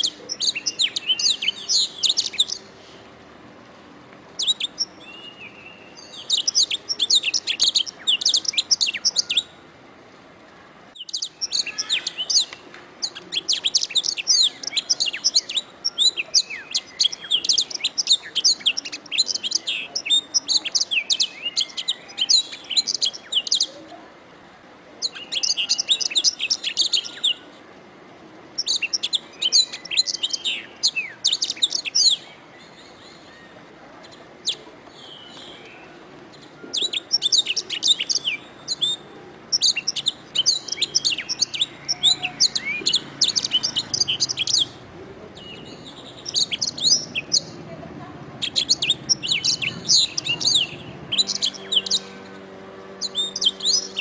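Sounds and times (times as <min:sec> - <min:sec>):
canary singing: 0:00.0 - 0:02.8, 0:04.4 - 0:09.7, 0:10.9 - 0:23.9, 0:25.0 - 0:27.5, 0:28.5 - 0:47.7, 0:48.3 - 0:54.0.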